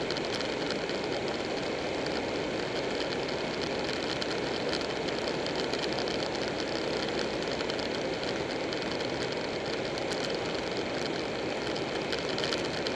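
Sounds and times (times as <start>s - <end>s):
wind and road noise: 0.0s - 12.9s.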